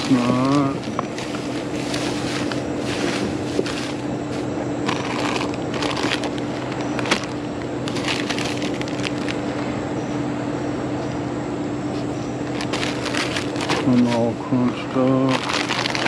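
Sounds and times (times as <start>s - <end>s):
plastic packaging crinkling: 0.0s - 9.5s, 12.5s - 16.0s
sharp crackles: 0.0s - 9.5s, 12.5s - 16.0s
steady low hum: 0.0s - 16.0s.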